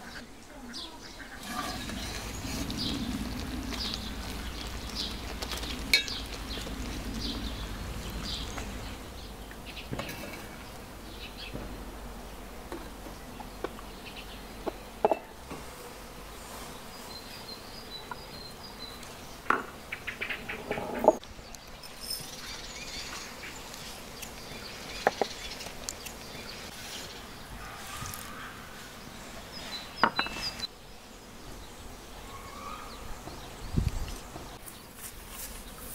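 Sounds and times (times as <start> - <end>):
insects buzzing: 0.0 - 35.9.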